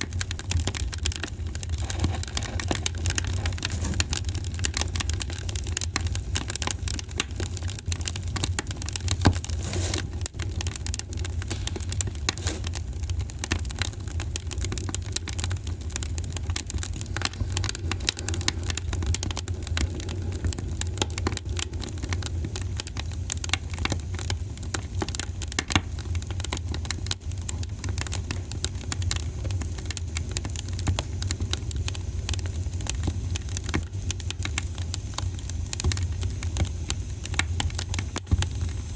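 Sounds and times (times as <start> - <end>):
fire rumbling in fireplace: 0.0 - 38.9
logs crackling and popping: 0.0 - 38.9.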